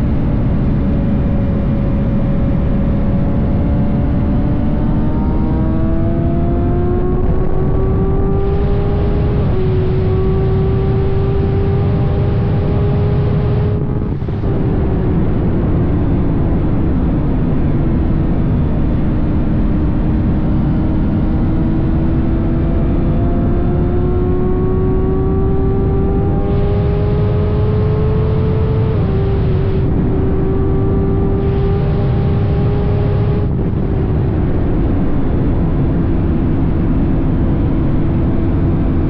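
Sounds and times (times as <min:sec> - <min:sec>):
wind rumble on microphone: 0:00.0 - 0:39.0.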